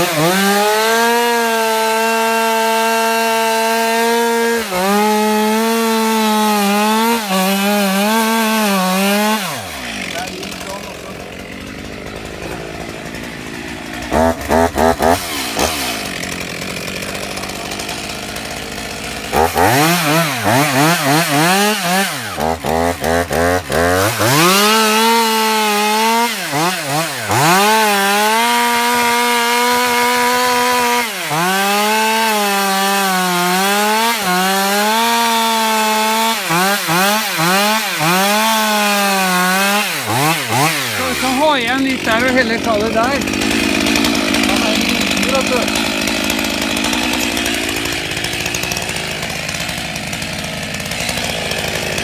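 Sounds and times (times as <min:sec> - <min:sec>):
chainsaw revving and cutting wood: 0:00.0 - 0:52.0.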